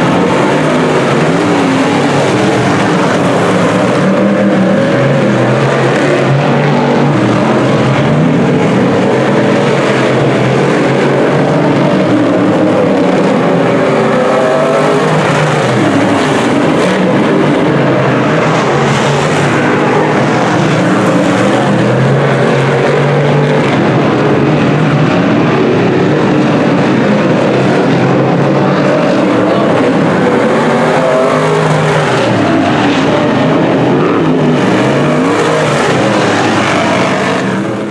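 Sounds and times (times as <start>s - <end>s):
race car engines passing: 0.0s - 37.9s.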